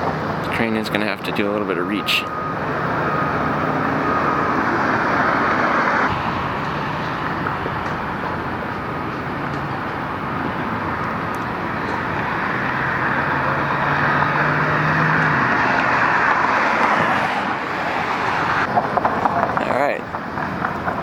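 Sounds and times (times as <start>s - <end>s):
engine hum: 0.0s - 21.0s
road traffic noise: 0.0s - 21.0s
vehicle passing: 0.0s - 21.0s.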